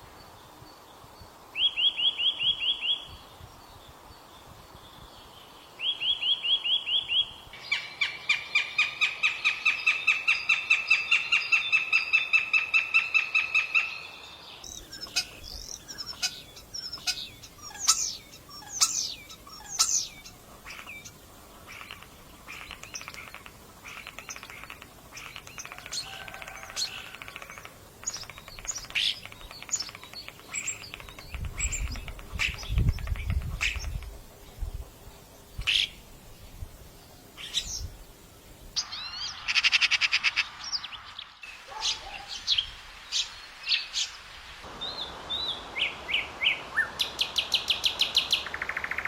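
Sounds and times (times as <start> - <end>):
birds chirping: 5.4 - 49.0.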